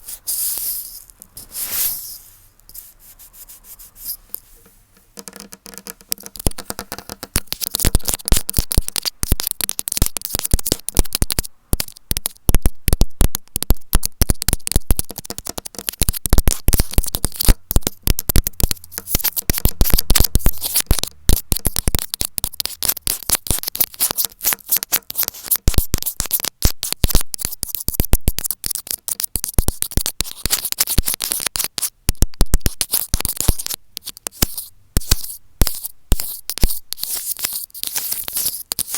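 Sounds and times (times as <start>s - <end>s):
microphone scratching and clicking: 4.2s - 38.9s.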